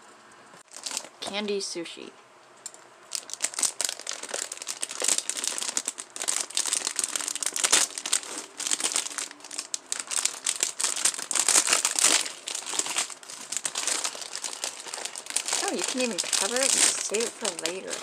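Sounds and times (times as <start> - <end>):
plastic packaging crinkling: 0.6 - 1.2, 2.7 - 18.0.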